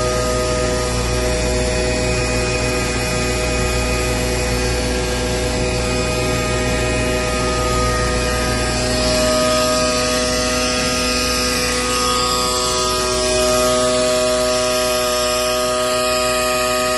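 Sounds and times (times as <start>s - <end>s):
machinery hum with constant tones: 0.0s - 16.9s.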